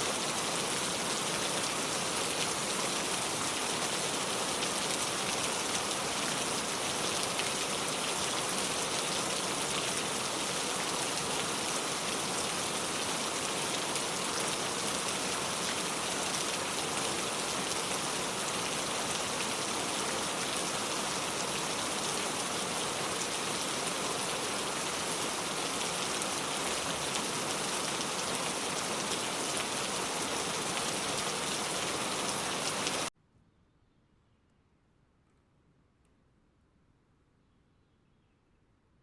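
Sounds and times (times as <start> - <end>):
dense rainfall: 0.0 - 33.1.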